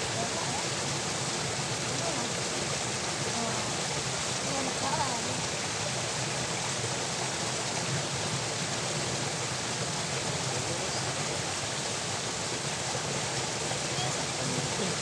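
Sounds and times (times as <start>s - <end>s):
water pouring from a culvert: 0.0s - 15.0s.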